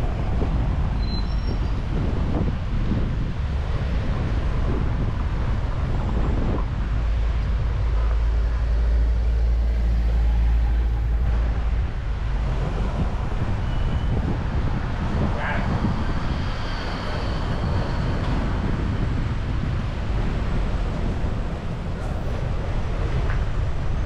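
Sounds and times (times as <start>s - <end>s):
minibus engine rumble: 0.0s - 24.0s.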